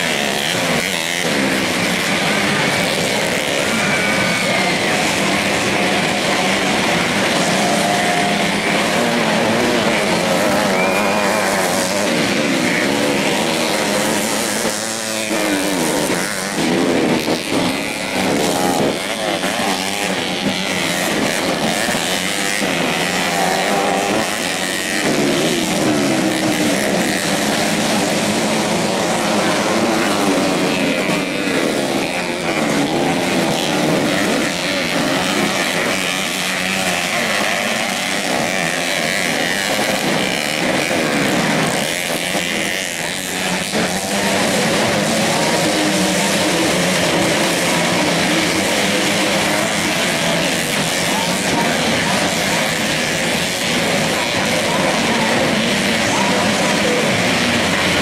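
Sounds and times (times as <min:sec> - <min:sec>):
motorcycles racing engines revving: 0:00.0 - 0:58.0.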